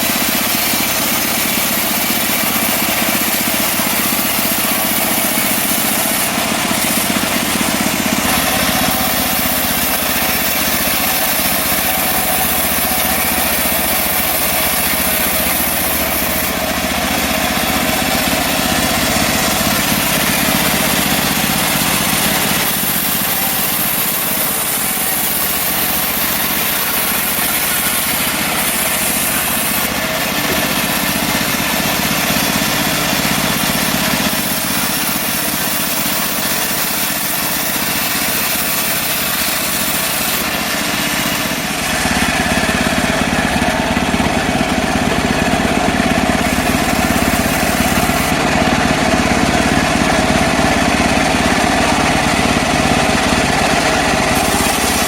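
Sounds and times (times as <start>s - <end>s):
sawmill small engine running: 0.0s - 55.0s.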